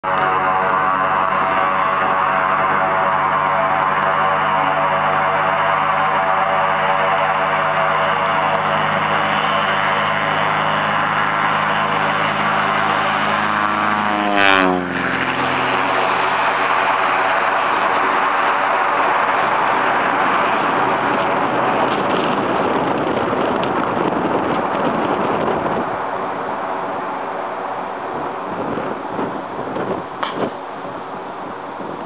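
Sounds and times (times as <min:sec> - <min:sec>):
propeller plane engine drone: 0:00.0 - 0:32.0.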